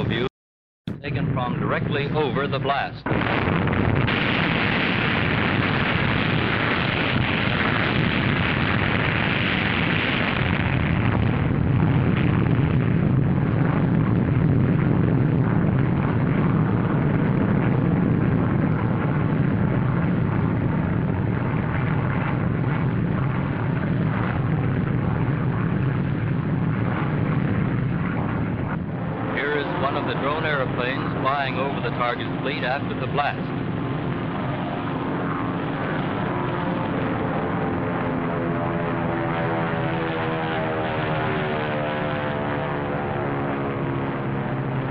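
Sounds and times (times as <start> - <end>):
explosion rumbling roar: 0.9 - 44.9.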